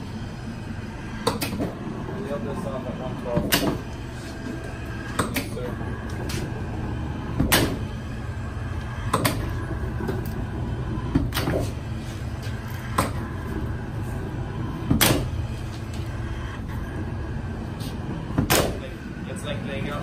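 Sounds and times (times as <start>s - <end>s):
hydraulic machine hum: 0.0s - 20.0s.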